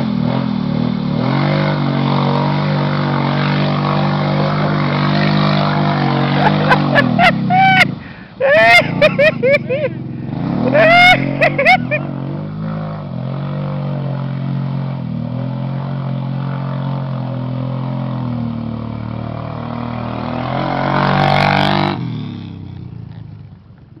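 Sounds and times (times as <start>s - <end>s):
atv engine running hard: 0.0s - 24.0s
wheels churning through mud: 0.0s - 24.0s.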